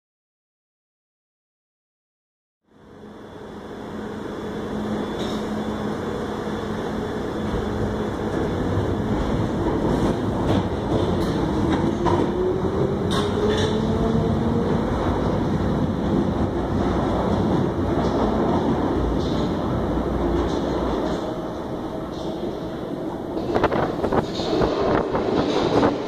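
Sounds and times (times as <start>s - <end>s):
train rumbling: 2.8s - 26.0s.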